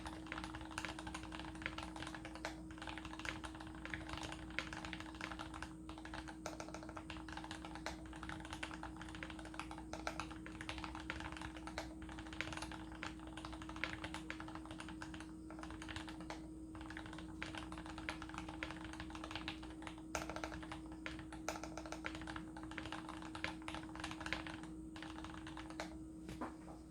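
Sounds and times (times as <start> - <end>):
mechanical keyboard typing: 0.0 - 26.0
steady low hum: 0.0 - 26.9.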